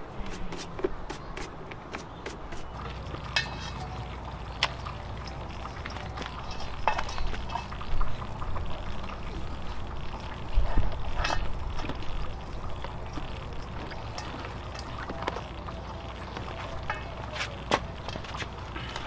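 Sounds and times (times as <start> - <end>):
water trickling: 2.6 - 19.0.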